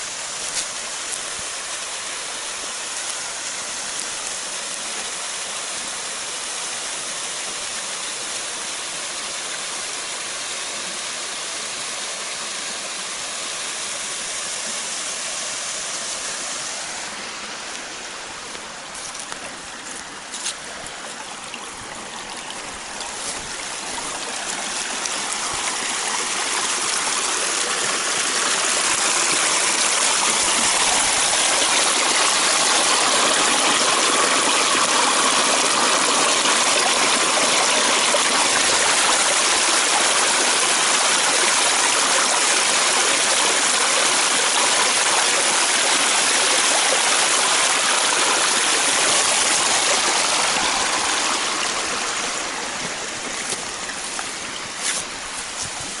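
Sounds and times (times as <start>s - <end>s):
stream splashing over stones: 0.0s - 56.0s.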